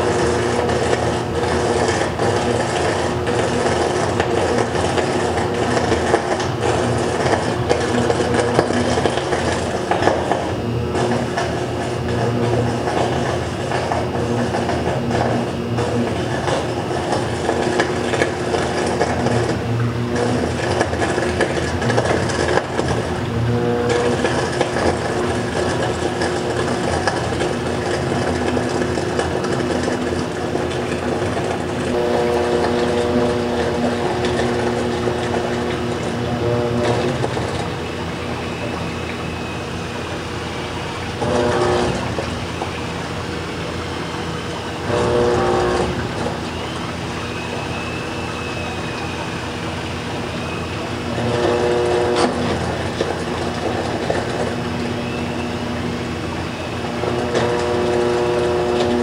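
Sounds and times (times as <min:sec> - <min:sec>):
machine hum with held tones: 0:00.0 - 0:59.0.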